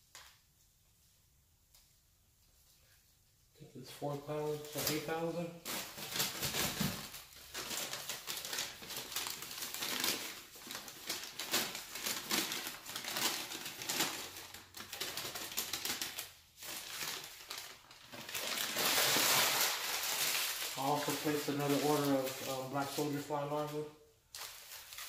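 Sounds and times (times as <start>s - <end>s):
newspaper crinkling: 4.0s - 25.0s.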